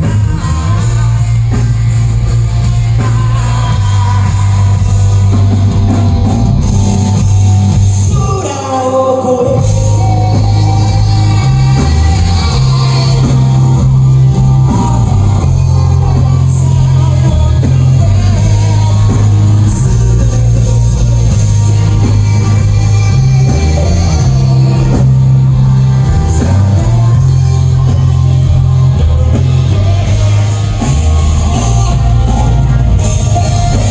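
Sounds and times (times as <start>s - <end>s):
live heavy rock band playing: 0.0s - 33.9s.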